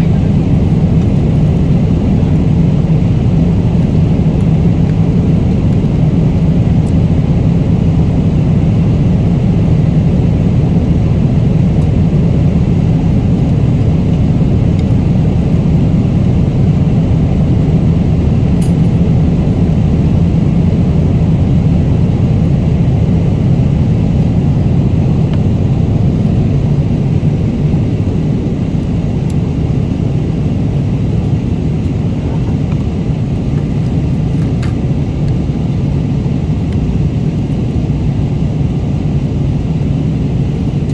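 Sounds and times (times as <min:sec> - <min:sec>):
jet engine and airflow rumble: 0:00.0 - 0:40.9.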